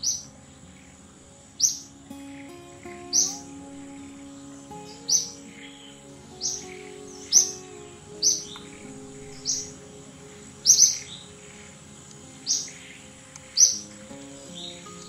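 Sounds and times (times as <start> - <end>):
bird chirping: 0.0 - 15.0
soft background music: 0.0 - 15.0.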